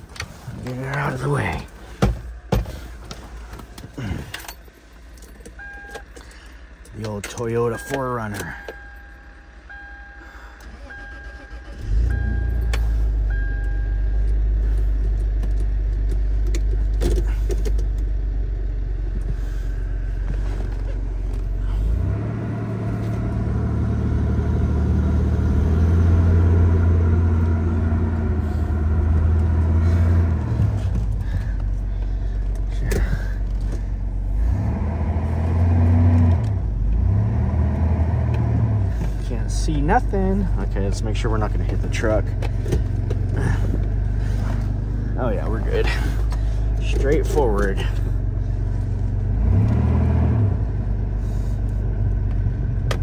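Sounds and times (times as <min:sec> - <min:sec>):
engine idling and revving: 0:00.0 - 0:53.0.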